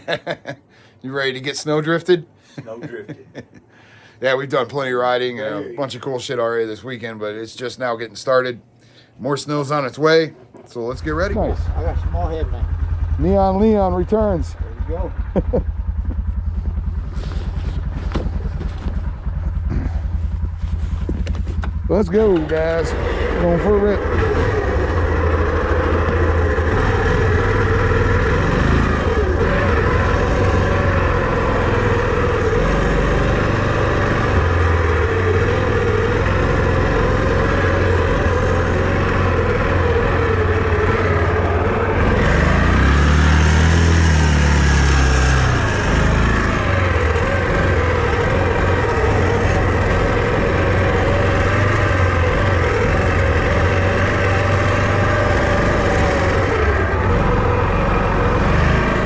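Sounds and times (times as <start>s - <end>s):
vehicle engine droning: 10.4s - 59.0s.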